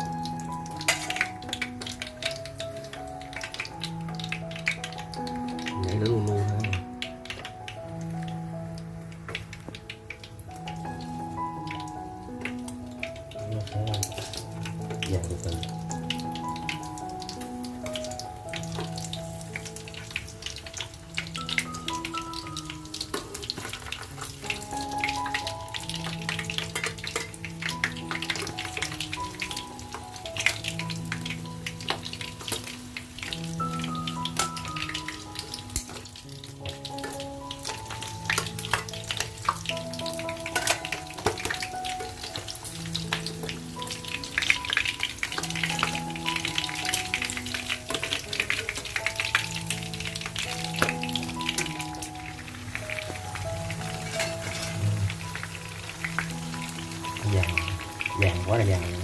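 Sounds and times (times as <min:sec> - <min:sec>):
background music with held notes: 0:00.0 - 0:59.0
sausages frying in a pan: 0:00.0 - 0:59.0.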